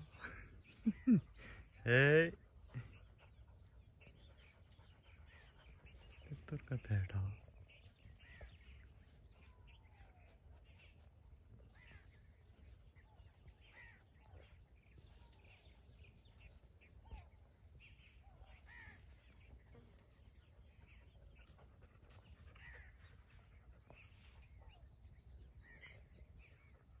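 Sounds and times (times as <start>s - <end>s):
faint bird calls: 0.0s - 27.0s.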